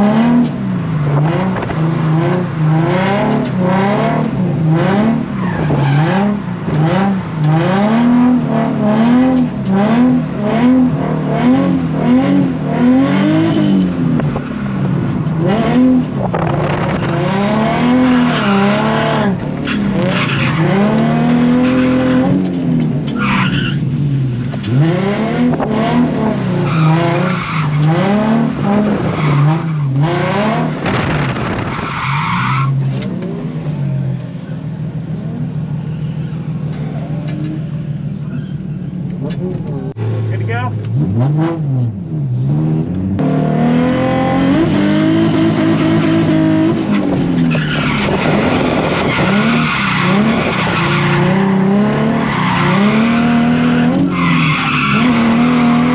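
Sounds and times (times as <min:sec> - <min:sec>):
car engine revving hard: 0:00.0 - 0:14.5, 0:15.3 - 0:23.0, 0:24.6 - 0:32.3, 0:39.2 - 0:55.9
tires squealing: 0:00.0 - 0:41.6, 0:43.5 - 0:55.9.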